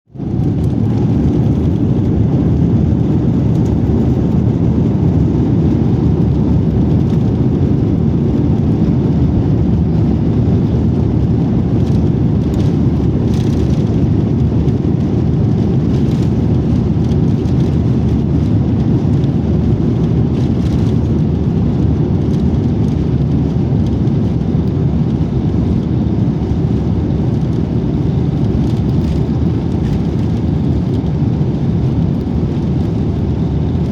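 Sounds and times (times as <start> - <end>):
jet engine rumble in cabin: 0.1 - 33.9.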